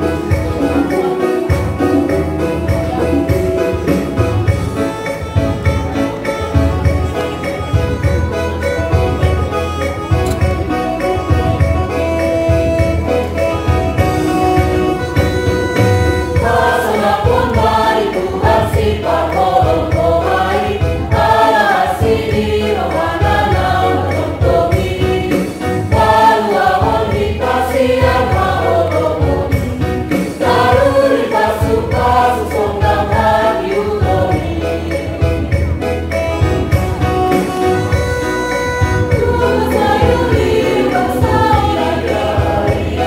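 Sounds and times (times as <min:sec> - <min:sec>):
choir singing a hymn: 0:00.0 - 0:09.6, 0:10.3 - 0:36.0, 0:36.7 - 0:43.0
instrumental backing with low beat: 0:00.0 - 0:43.0.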